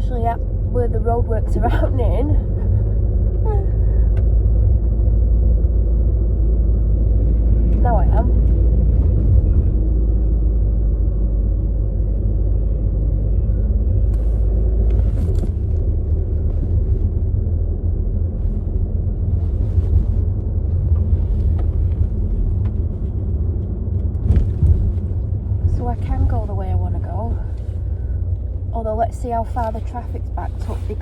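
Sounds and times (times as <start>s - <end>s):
car cabin rumble: 0.0s - 31.0s.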